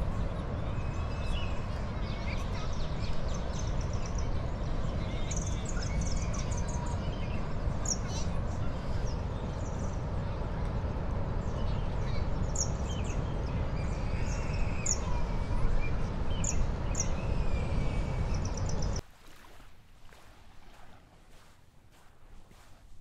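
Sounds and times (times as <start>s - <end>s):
small birds chirping: 0.0s - 19.0s
wind buffeting microphone: 0.0s - 19.0s.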